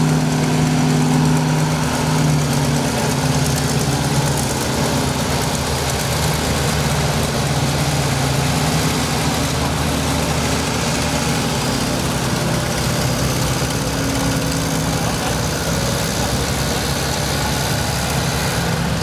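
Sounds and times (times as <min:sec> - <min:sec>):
pickup truck driving past: 0:00.0 - 0:19.0
tractor engines running: 0:00.0 - 0:19.0.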